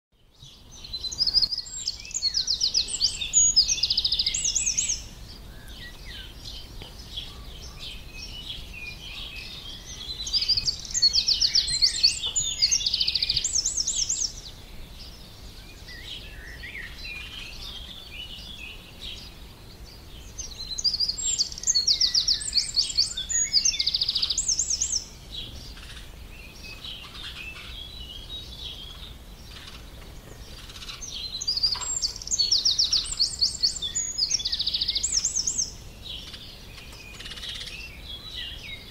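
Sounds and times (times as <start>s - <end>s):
songbird singing: 0.1s - 38.9s
faint bird calls: 1.2s - 14.4s, 20.3s - 38.9s.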